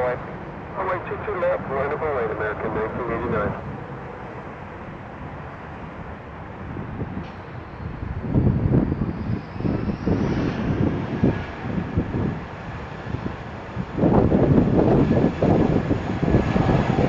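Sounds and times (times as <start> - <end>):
high jet whine: 0.0 - 17.0
jet landing: 0.0 - 17.0
wind rumbling on microphone: 0.0 - 17.0.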